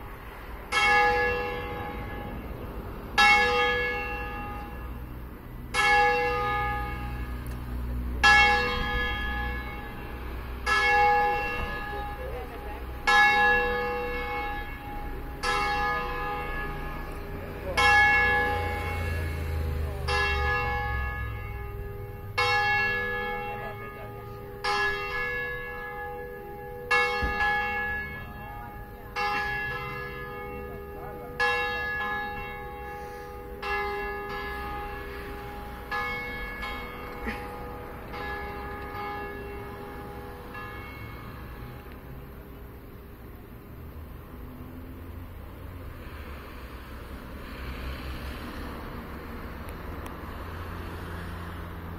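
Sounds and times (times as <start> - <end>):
church bell ringing: 0.0 - 42.6.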